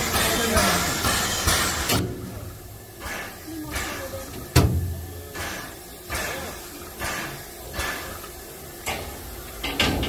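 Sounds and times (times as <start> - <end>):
steam locomotive puffing: 0.0 - 10.0.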